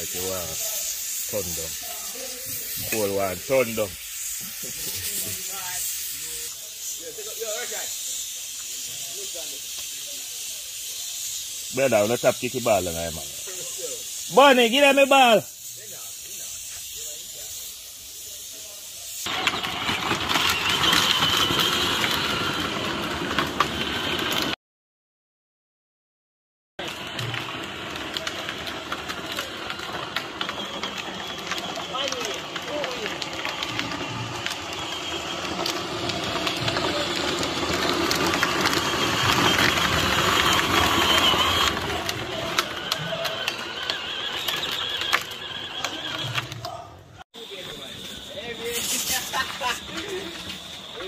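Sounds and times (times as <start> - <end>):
toy car plastic wheels clattering: 0.0 - 18.6, 19.2 - 24.6, 26.8 - 47.0, 48.1 - 51.0.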